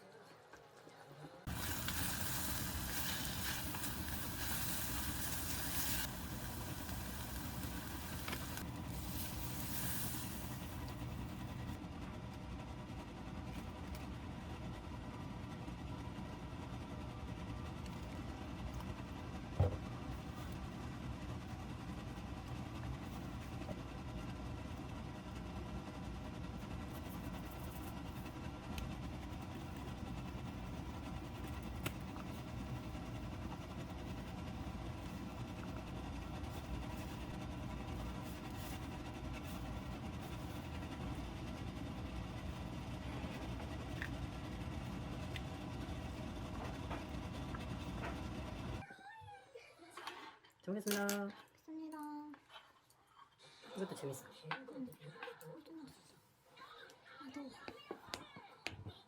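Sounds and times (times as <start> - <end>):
steady low hum: 1.5 - 48.8.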